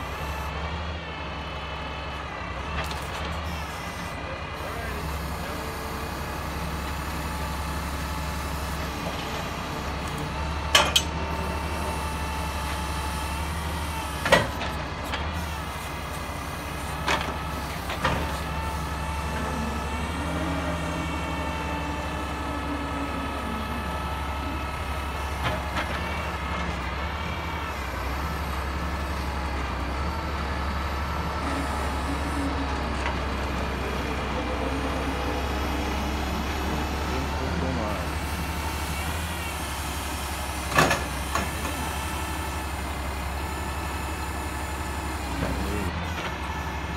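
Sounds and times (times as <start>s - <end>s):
log loader engine running: 0.0s - 46.9s
hydraulic whine: 2.1s - 46.9s.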